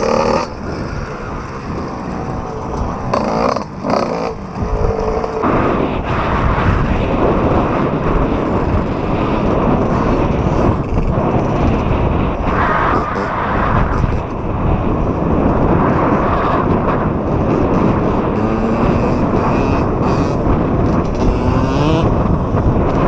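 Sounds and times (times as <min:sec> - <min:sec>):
wind and tyres rushing: 0:00.0 - 0:23.0.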